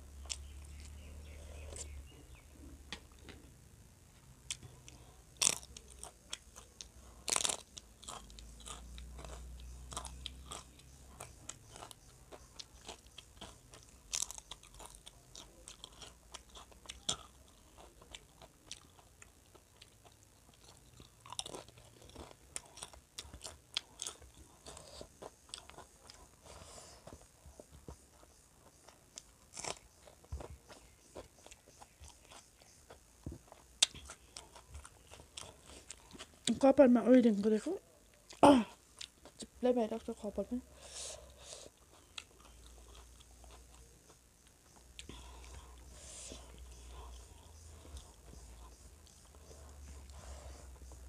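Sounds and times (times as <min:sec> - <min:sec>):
crunchy food chewing: 0:00.2 - 0:03.5, 0:04.2 - 0:36.6, 0:40.9 - 0:51.0.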